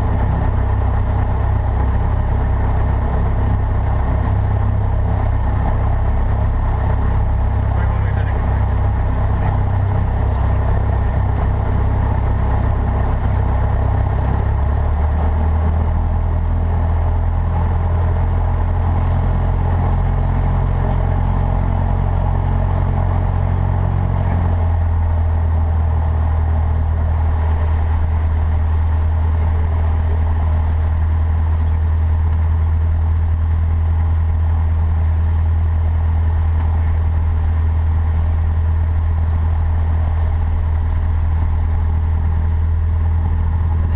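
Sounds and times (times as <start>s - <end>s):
propeller plane engine drone: 0.0s - 43.9s.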